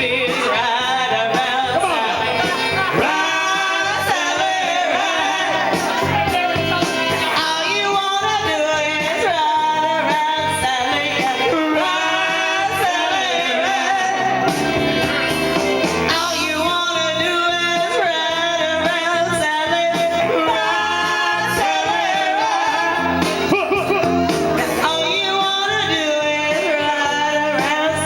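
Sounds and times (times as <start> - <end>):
instrumental music with beat: 0.0 - 28.0
person singing: 0.0 - 28.0.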